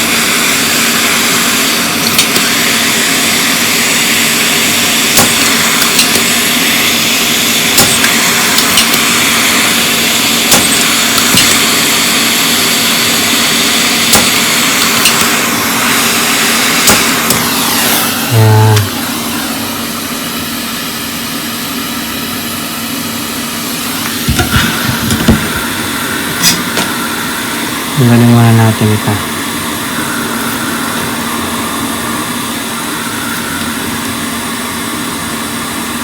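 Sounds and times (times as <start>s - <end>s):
hot air blower hissing: 0.0s - 36.0s.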